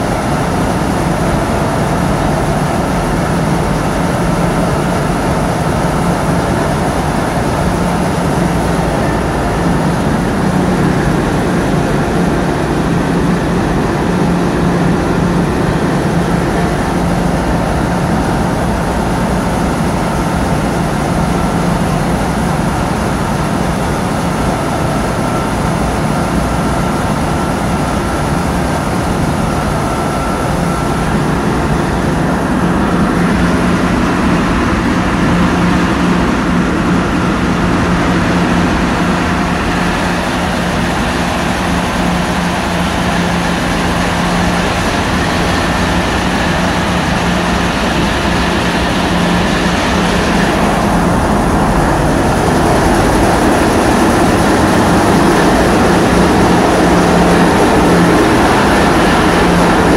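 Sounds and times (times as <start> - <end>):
diesel engines running: 0.0 - 59.9
loud rushing noise: 0.0 - 59.9.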